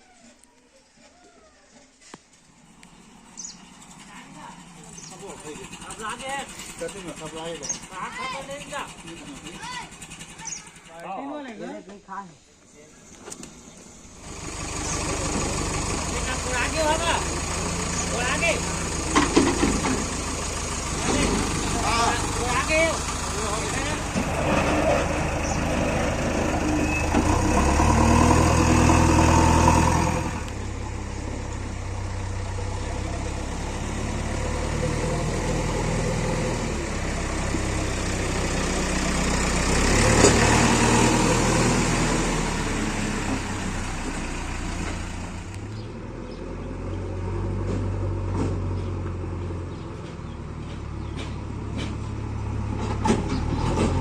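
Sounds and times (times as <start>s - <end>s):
diesel engine revving: 2.5s - 11.0s, 13.0s - 54.0s.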